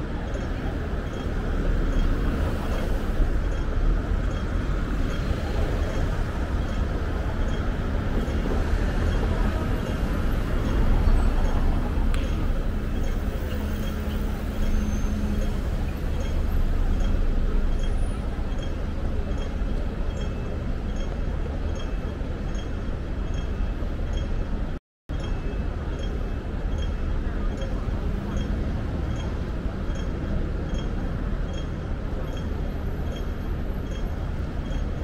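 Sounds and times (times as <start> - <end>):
pedestrians and city noise: 0.0 - 35.0
road traffic rumble: 0.0 - 35.0
vehicles passing: 0.0 - 35.0.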